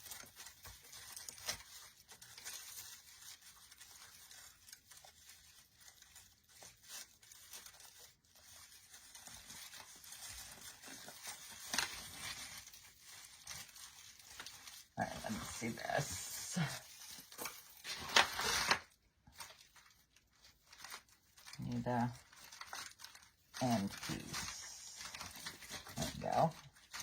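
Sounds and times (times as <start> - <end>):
rustling pine branches: 0.0 - 27.0.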